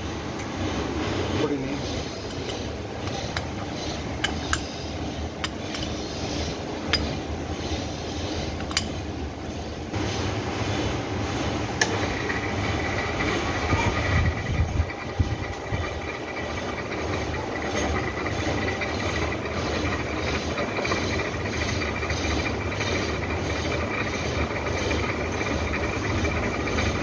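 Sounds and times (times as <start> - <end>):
milling machine drone: 0.0 - 27.0.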